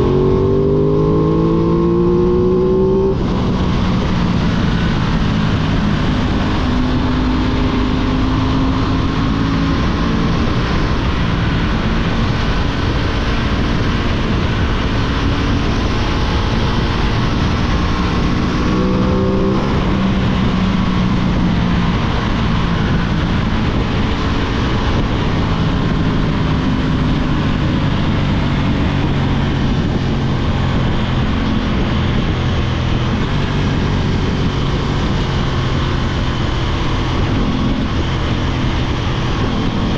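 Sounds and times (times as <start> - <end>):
constant noisy rush: 0.0 - 39.9
motorcycle engine revving: 0.0 - 39.9.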